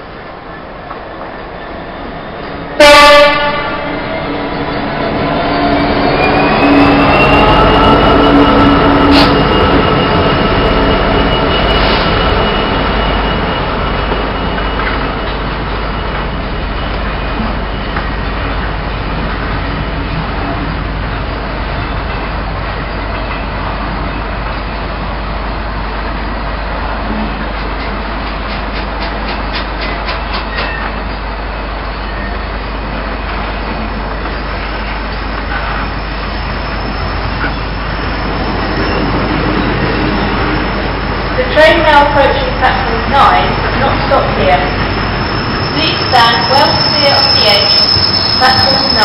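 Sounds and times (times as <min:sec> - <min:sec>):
freight wagons rumbling on rails: 0:00.0 - 0:49.0.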